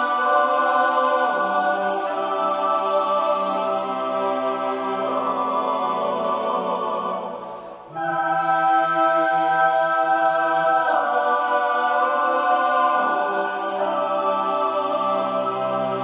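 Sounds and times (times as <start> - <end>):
slow choir-like chords: 0.0 - 16.0.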